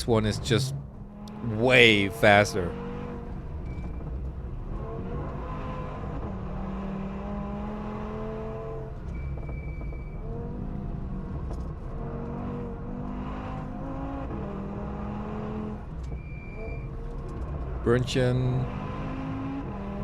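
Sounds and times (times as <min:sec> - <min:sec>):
car engine revving: 0:00.0 - 0:09.2, 0:10.1 - 0:20.0.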